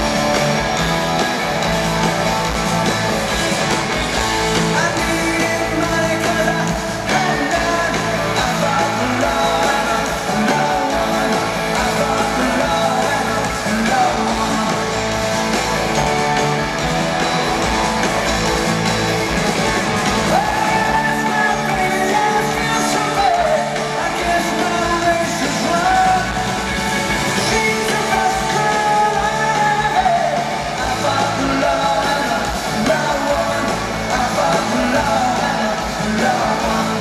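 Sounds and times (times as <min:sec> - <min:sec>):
lead singer: 0:00.0 - 0:37.0
live rock band playing: 0:00.0 - 0:37.0.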